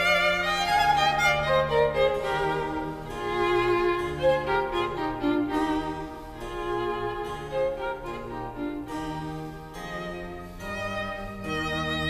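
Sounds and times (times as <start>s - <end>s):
bowed strings music: 0.0s - 12.0s
violin held notes: 0.0s - 12.0s.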